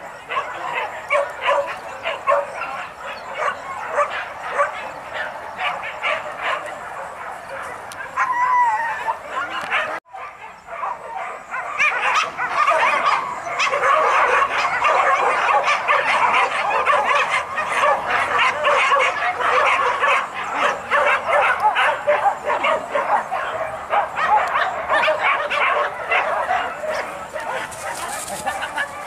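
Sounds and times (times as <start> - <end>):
dogs yelping and barking: 0.0 - 29.0.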